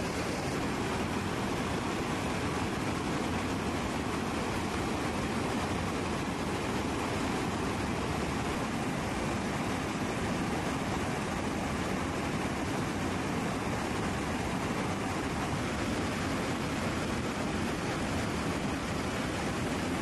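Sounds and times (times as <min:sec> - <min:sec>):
aircraft engine roar in flight: 0:00.0 - 0:20.0.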